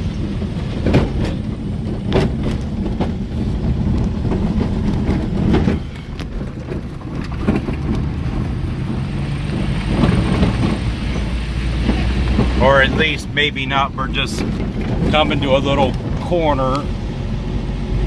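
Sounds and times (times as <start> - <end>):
engine and tyre hum: 0.0 - 18.0
vehicle knocks and rattles on bumps: 0.0 - 18.0.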